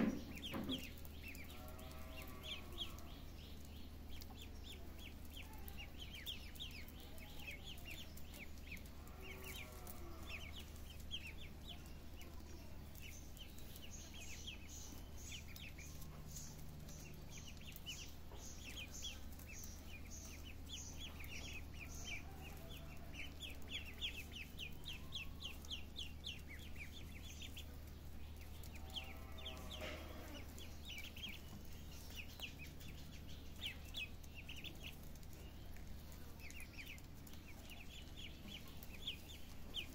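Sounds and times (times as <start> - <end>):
ducklings peeping: 0.0 - 39.9
steady low hum: 0.0 - 39.9.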